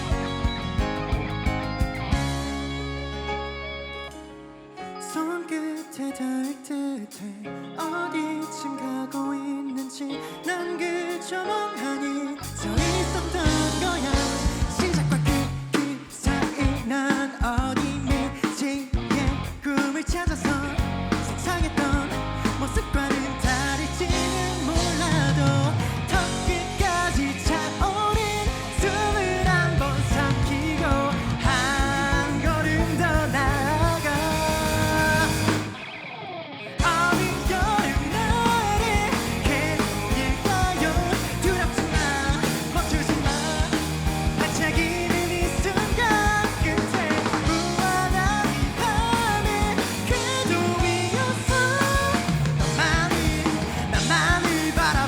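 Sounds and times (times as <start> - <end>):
rock band playing: 0.0 - 5.4, 9.8 - 55.0
lead vocal singing: 5.0 - 35.9, 36.8 - 55.0.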